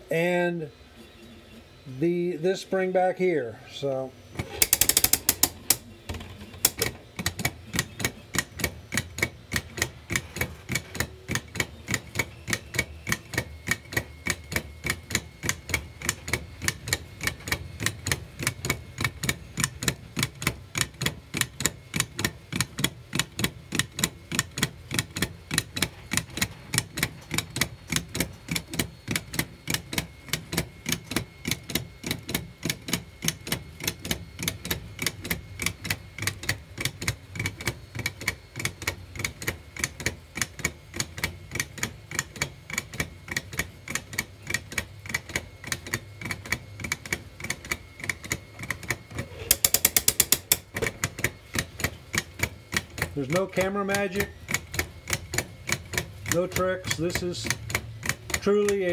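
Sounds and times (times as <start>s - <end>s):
clock escapement ticking: 4.6s - 5.8s, 6.6s - 58.9s.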